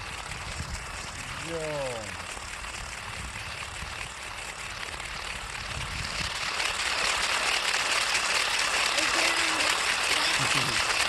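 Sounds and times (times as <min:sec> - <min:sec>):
rc car running on asphalt: 0:00.0 - 0:11.0.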